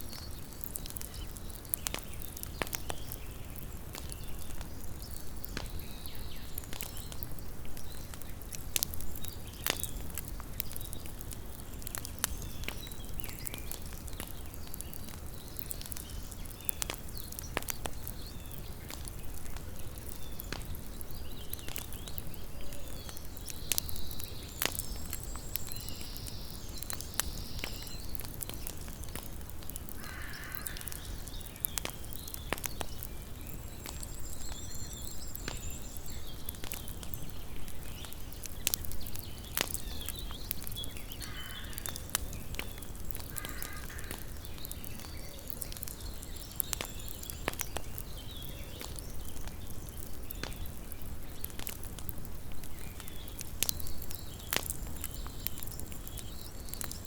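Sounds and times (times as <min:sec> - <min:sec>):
campfire wood crackling: 0:00.0 - 0:57.0
low fire rumble: 0:00.0 - 0:57.0.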